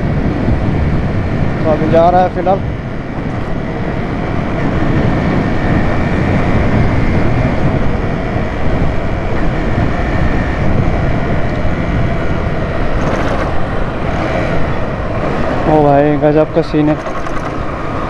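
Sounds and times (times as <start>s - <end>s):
motorcycle road noise: 0.0s - 18.0s
wind buffeting microphone: 0.0s - 18.0s.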